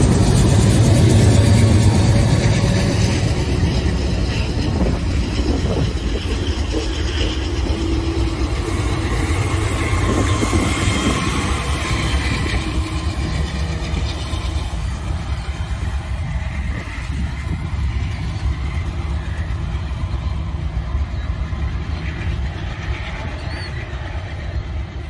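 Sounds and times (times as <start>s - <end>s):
locomotive engine rumble: 0.0s - 25.0s
wheel noise on rails: 0.0s - 25.0s.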